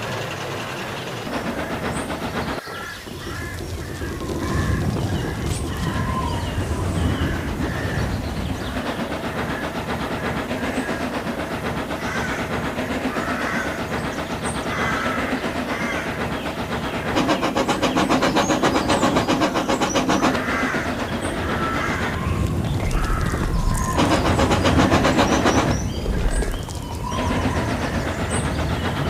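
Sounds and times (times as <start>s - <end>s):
train clattering on rails: 0.0s - 29.0s.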